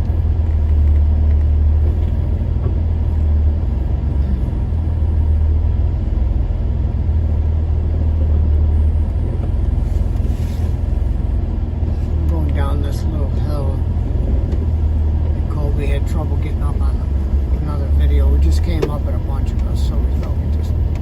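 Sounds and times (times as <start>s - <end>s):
off-road vehicle rumbling: 0.0s - 21.0s.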